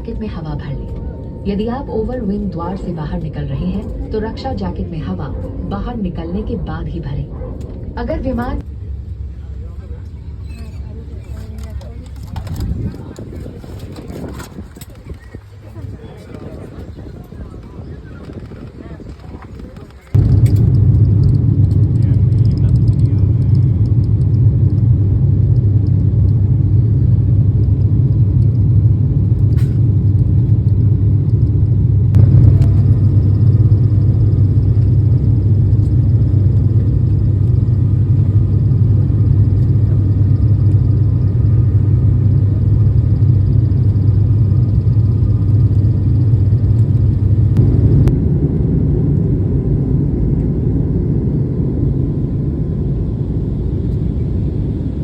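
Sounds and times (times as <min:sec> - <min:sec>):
airliner engines rumbling in cabin: 0:00.0 - 0:55.0.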